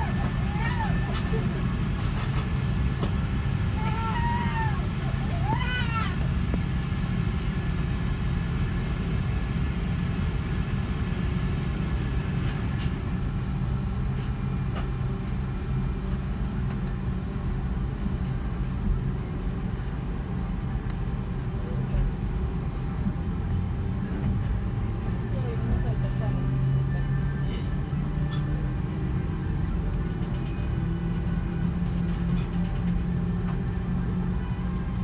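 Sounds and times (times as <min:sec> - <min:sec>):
jet engines idling rumble: 0:00.0 - 0:35.0.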